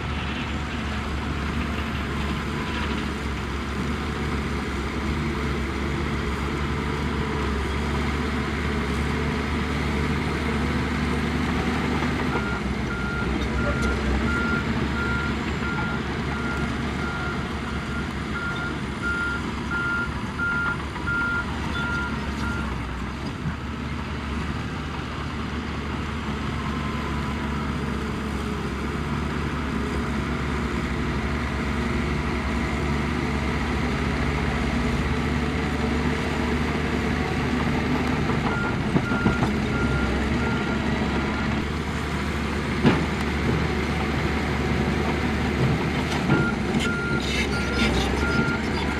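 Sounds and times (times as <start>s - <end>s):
diesel machinery engines running: 0.0s - 48.9s.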